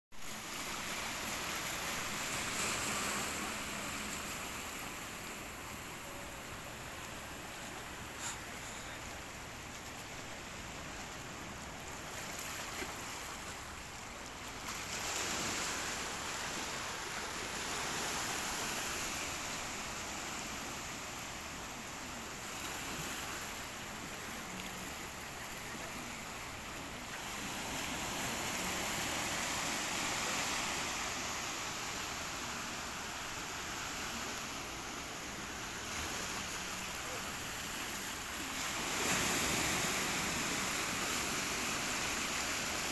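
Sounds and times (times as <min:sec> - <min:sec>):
sea waves breaking: 0:00.2 - 0:42.9.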